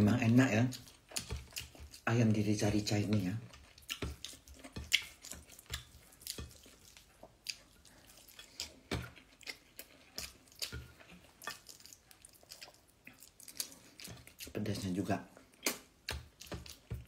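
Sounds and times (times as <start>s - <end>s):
wet chewing and lip smacks: 0.5s - 2.1s, 3.4s - 14.7s, 15.3s - 17.0s.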